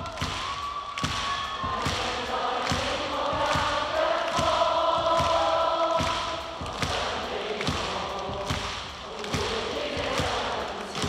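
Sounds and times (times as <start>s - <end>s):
steady thumping beat: 0.0s - 11.0s
audience singing a pop ballad: 1.6s - 11.0s.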